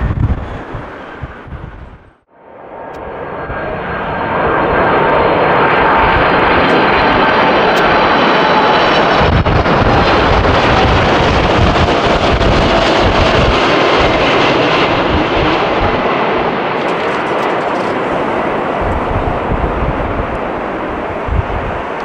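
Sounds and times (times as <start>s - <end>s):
wind buffeting microphone: 0.0s - 2.2s, 3.0s - 22.0s
jet airliner engine: 0.0s - 22.0s.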